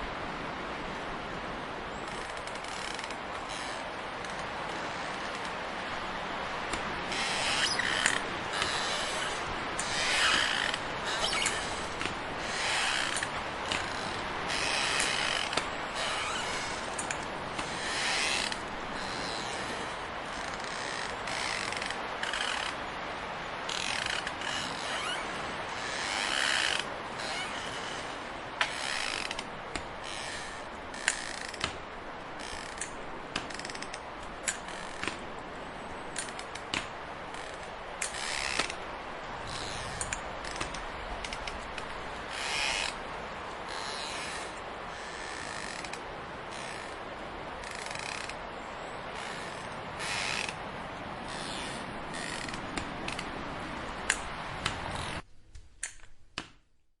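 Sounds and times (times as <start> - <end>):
crutches creaking: 2.0 - 5.6, 6.6 - 22.8, 23.7 - 35.2, 36.1 - 43.0, 43.7 - 47.0, 47.6 - 48.4, 49.2 - 50.6, 51.3 - 53.3.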